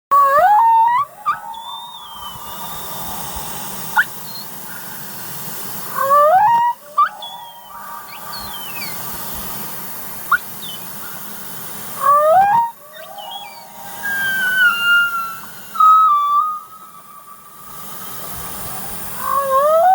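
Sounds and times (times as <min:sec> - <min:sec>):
humpback whale calls: 0:00.1 - 0:05.1, 0:05.8 - 0:09.6, 0:11.9 - 0:19.9
high gliding whistles: 0:00.2 - 0:19.9
underwater hiss: 0:01.2 - 0:19.9.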